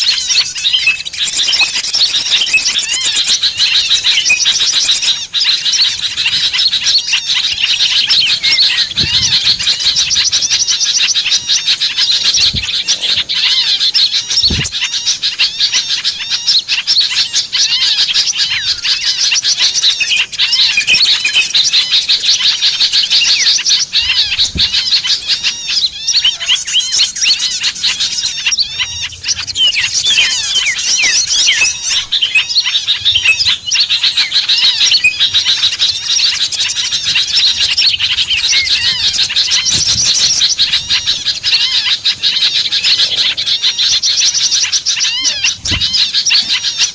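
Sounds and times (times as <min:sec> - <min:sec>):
small songbirds chirping: 0:00.0 - 0:46.9.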